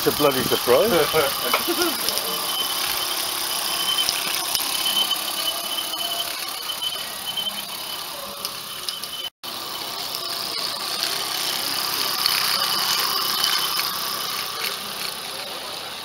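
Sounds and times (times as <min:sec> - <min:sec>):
model locomotive wheels running: 0:00.0 - 0:16.0
steam hissing: 0:00.0 - 0:16.0.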